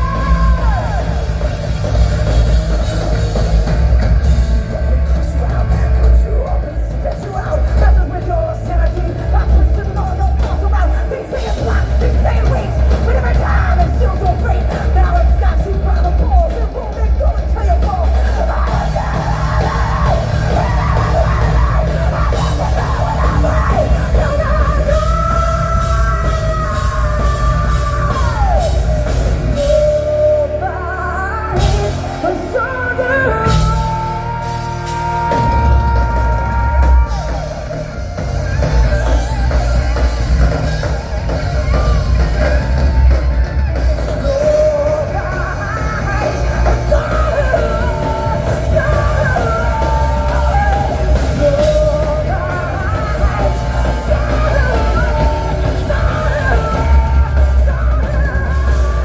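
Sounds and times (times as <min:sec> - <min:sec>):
bass guitar: 0:00.0 - 0:59.0
drums: 0:00.0 - 0:59.0
electric guitar: 0:00.0 - 0:59.0
person singing: 0:00.0 - 0:59.0.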